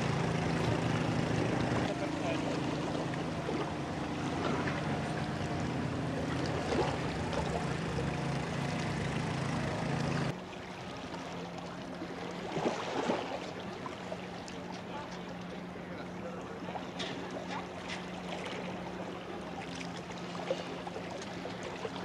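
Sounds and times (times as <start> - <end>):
low motor hum: 0.0 - 22.0
water lapping: 0.0 - 22.0.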